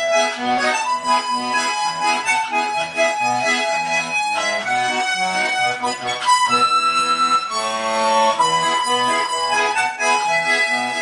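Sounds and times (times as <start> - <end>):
accordion music: 0.0 - 11.0.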